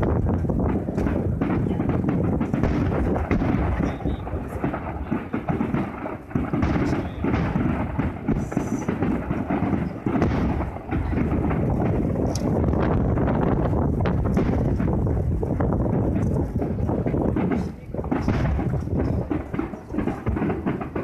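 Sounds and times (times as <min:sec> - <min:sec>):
fireworks booming: 0:00.0 - 0:21.0.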